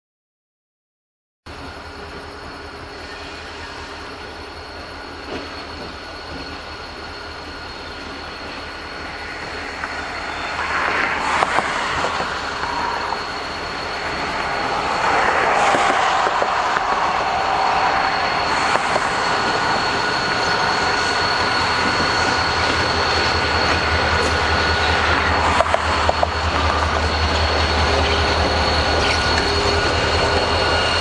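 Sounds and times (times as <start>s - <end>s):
locomotive engine and train rumble: 1.5s - 31.0s.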